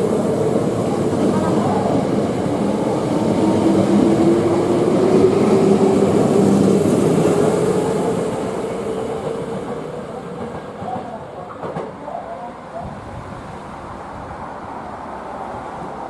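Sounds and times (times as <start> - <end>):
electric train running past: 0.0 - 16.0.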